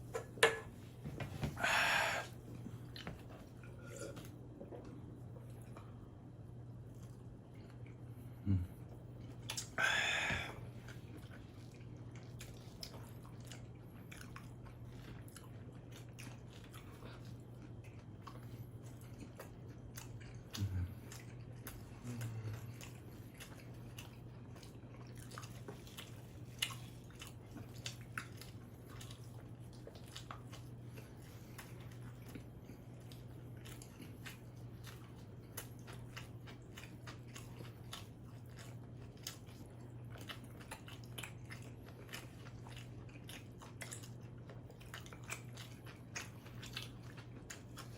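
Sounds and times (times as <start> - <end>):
chewing and crunching pizza: 0.0 - 47.9
steady low hum: 0.0 - 47.9.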